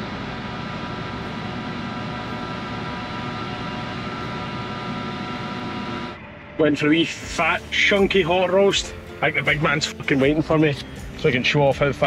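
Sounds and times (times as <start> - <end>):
fuel pump whine: 0.0 - 12.0.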